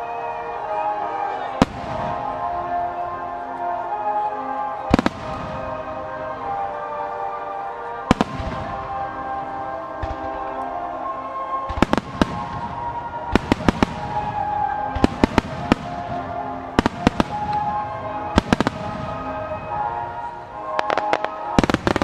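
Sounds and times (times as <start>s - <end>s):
fireworks bursting: 0.0s - 22.0s
music with long held tones: 0.0s - 22.0s.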